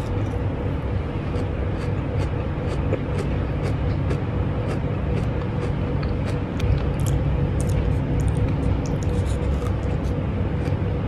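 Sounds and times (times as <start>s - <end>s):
faint hum: 0.0s - 11.0s
low rumble: 0.0s - 11.0s
crunchy chewing: 1.2s - 10.8s.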